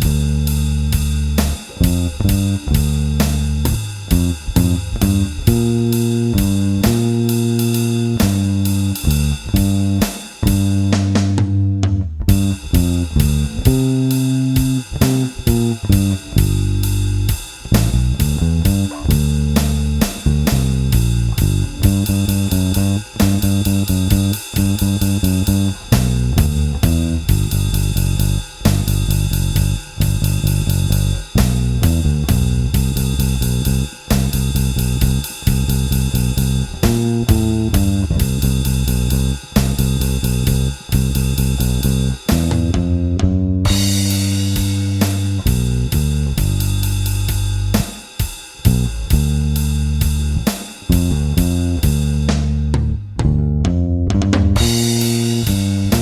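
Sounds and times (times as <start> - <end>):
electric bass playing: 0.0 - 47.9, 48.6 - 56.0
drum kit: 0.0 - 56.0.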